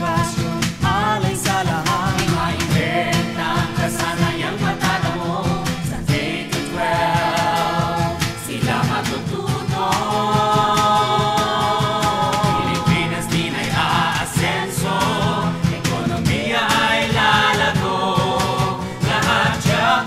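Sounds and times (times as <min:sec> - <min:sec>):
band playing a steady beat: 0:00.0 - 0:20.0
voices singing a jingle: 0:00.0 - 0:20.0.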